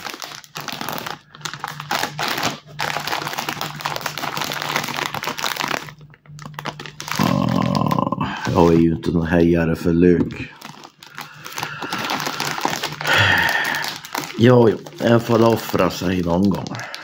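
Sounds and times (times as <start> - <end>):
plastic snack bag crinkling: 0.0 - 9.1, 10.3 - 17.0.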